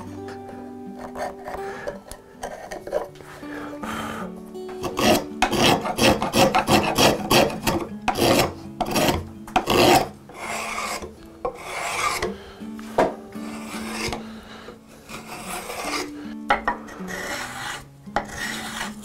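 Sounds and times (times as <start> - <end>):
spokeshave shaving wood: 0.9 - 3.2, 4.8 - 19.0.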